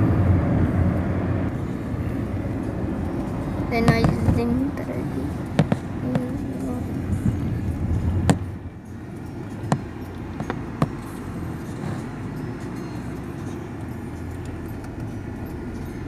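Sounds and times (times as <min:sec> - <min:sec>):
car road noise rumble: 0:00.0 - 0:16.0.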